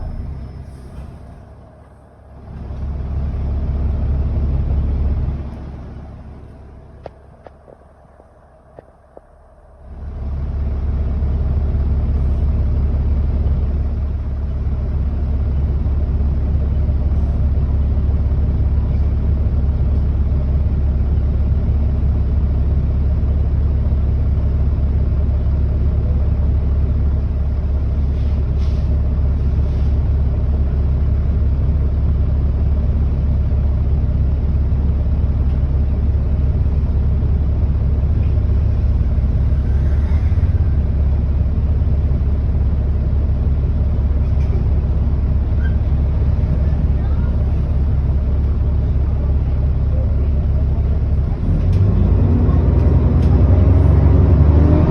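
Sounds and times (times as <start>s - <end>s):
bus engine rumbling: 0.0s - 54.9s.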